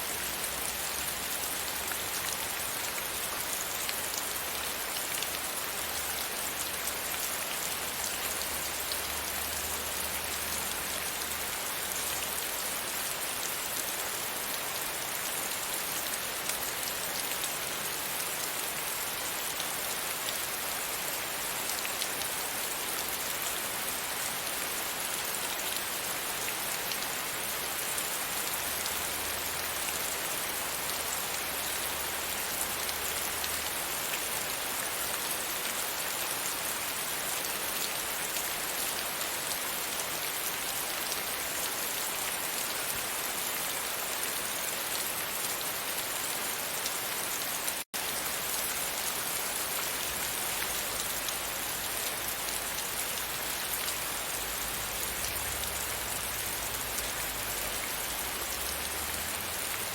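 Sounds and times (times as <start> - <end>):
rain on a window pane: 0.1 - 45.6, 46.8 - 59.9.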